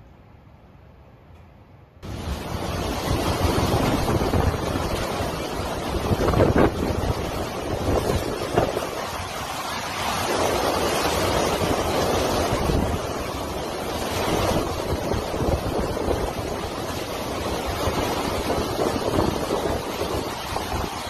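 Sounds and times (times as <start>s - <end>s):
driving rain: 2.0s - 21.0s
hurricane wind roaring: 2.0s - 21.0s
wind buffeting microphone: 2.0s - 21.0s.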